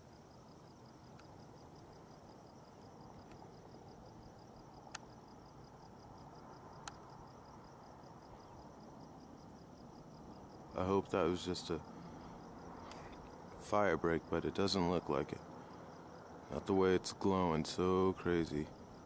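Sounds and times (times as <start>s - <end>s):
crickets chirping: 0.0s - 19.0s
low hiss: 0.0s - 19.0s.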